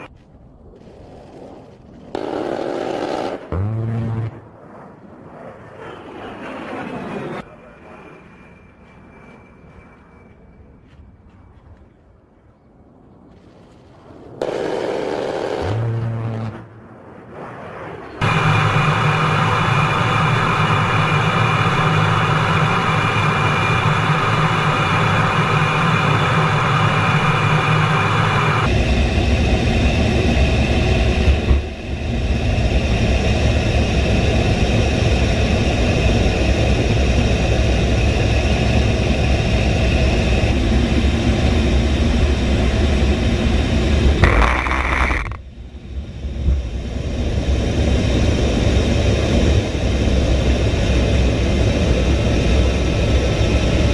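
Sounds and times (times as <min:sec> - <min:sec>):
jet engines whining: 0:02.1 - 0:10.6, 0:14.1 - 0:53.9.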